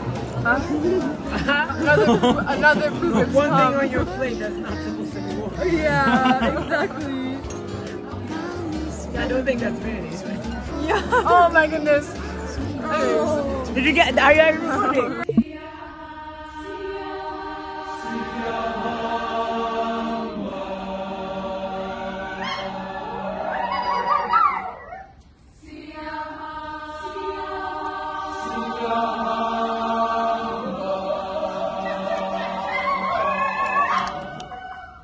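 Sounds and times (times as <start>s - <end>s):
choir singing held chords: 0.0s - 9.4s, 10.4s - 24.4s, 25.5s - 34.6s.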